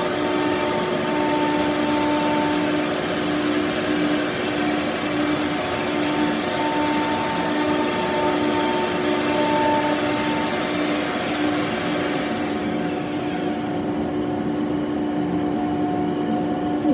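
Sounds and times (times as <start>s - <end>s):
cnc router whining: 0.0s - 16.9s.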